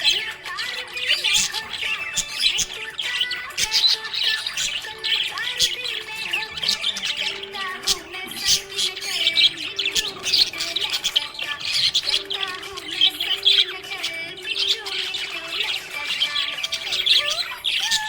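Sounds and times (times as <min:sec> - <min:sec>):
budgerigars chirping and warbling: 0:00.0 - 0:18.0.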